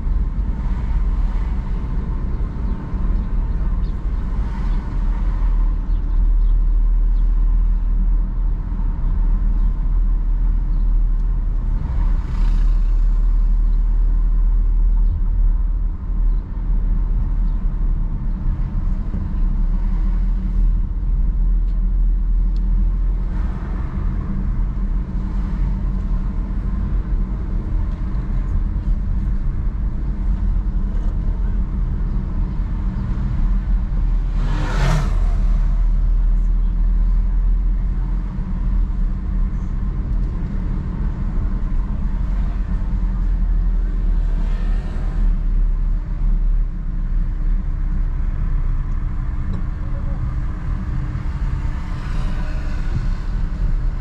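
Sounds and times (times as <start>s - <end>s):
car engine and road rumble: 0.0s - 54.0s
vehicles passing: 0.0s - 54.0s.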